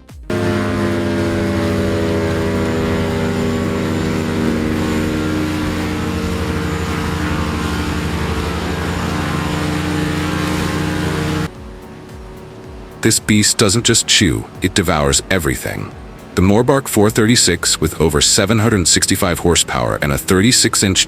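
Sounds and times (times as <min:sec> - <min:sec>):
wood chipper engine running: 0:00.3 - 0:21.0.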